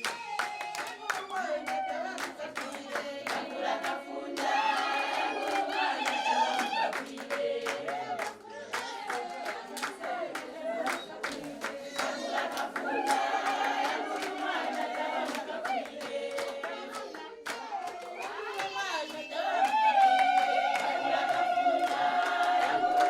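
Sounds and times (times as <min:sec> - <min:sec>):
group of voices singing: 0:00.0 - 0:23.0
hand-clapping: 0:00.0 - 0:23.0.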